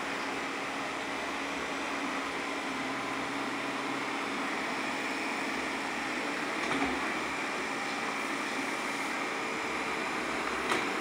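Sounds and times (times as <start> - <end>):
robot vacuum humming: 0.0 - 11.0.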